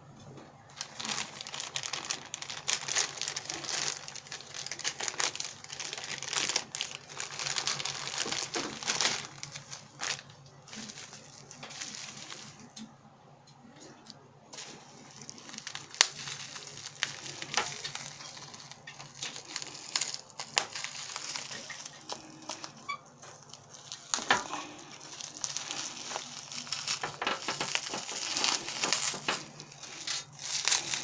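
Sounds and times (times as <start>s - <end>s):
plastic film crinkling: 0.6s - 12.8s, 14.0s - 31.0s.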